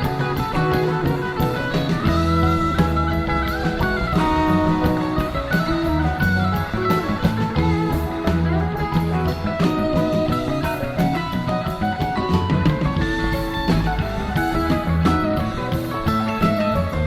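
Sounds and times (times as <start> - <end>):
bass guitar: 0.0 - 17.0
drum kit: 0.0 - 17.0
electric guitar lines: 0.0 - 17.0.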